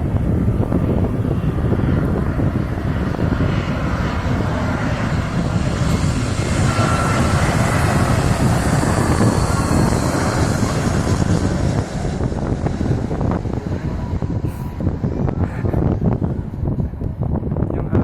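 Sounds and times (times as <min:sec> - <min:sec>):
airliner engine roar: 0:00.0 - 0:18.0.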